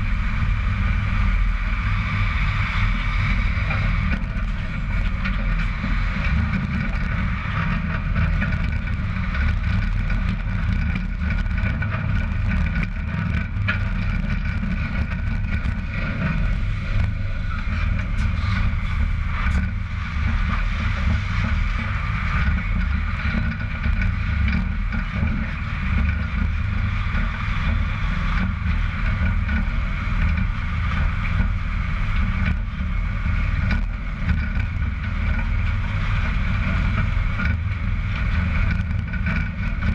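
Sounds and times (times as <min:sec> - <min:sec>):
tyres rolling on road: 0:00.0 - 0:39.9
wind buffeting microphone: 0:00.0 - 0:39.9.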